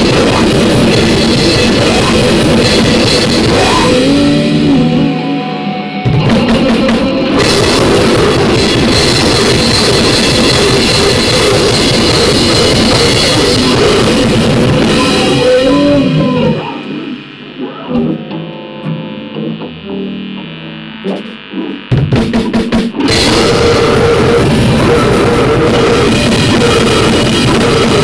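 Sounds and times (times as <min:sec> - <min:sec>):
harsh distorted noise music: 0:00.0 - 0:28.0.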